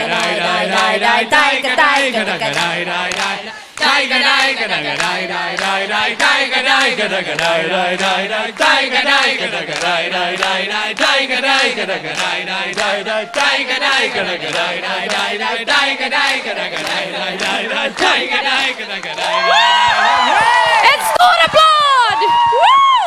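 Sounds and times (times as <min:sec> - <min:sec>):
crowd chanting wordless tune: 0:00.0 - 0:20.4
rhythmic hand clapping: 0:00.0 - 0:20.8.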